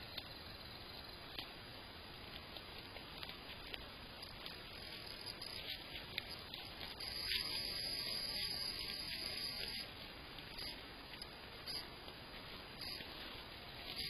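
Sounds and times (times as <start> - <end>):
soft rustling: 0.0 - 14.0
steady hiss: 0.0 - 14.0.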